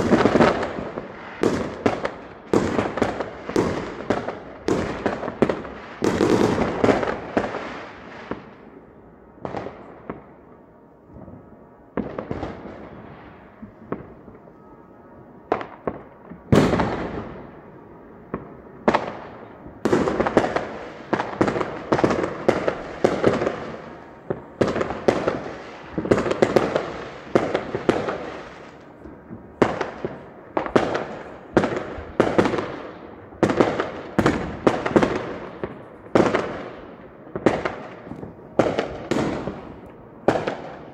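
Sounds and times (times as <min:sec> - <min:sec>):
fireworks bangs and crackles: 0:00.0 - 0:14.8, 0:15.4 - 0:40.9.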